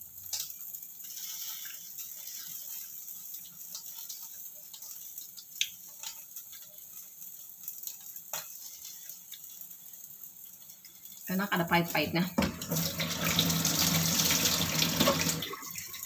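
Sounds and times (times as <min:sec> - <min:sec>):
food sizzling on stove: 0:00.0 - 0:16.0.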